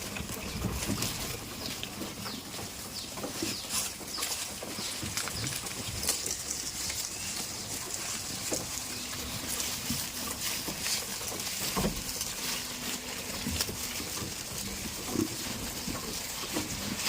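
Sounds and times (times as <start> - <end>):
goats knocking and shuffling: 0.0 - 17.0.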